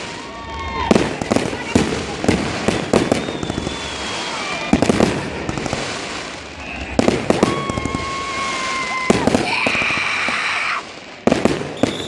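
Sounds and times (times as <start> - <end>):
firework bangs: 0.0 - 12.0
firework hissing: 0.0 - 12.0
whistling firework: 0.0 - 12.0.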